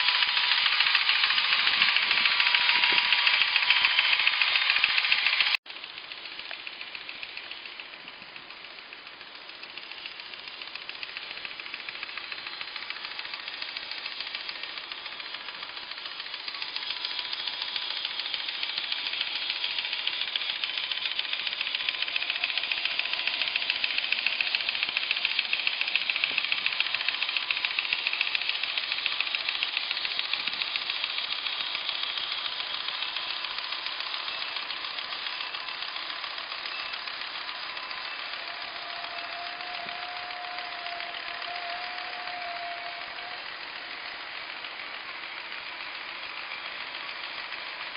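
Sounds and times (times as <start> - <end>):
faint motor whine: 0.0 - 47.9
model train rattling: 0.0 - 47.9.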